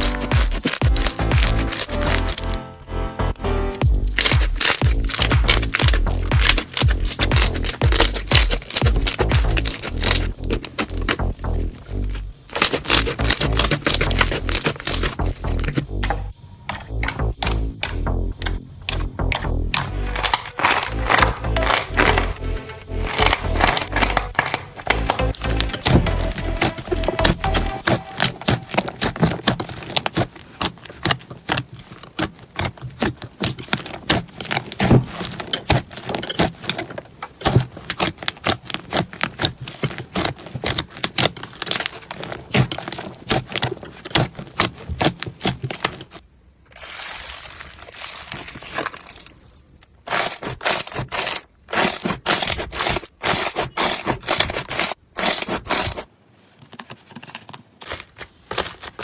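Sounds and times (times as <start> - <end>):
slime crackling and popping: 0.0 - 2.6, 3.8 - 56.1.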